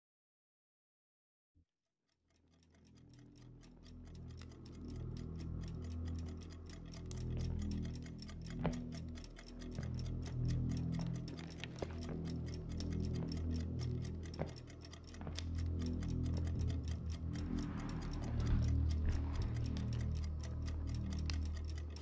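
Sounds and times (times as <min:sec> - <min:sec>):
clock ticking: 0:02.3 - 0:22.0
low steady drone: 0:03.2 - 0:22.0.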